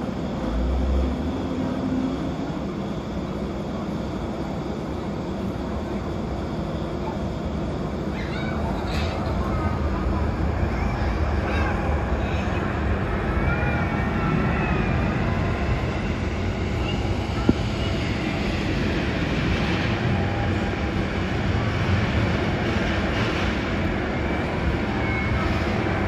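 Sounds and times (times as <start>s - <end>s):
low rumble of vehicle noise: 0.0s - 26.0s.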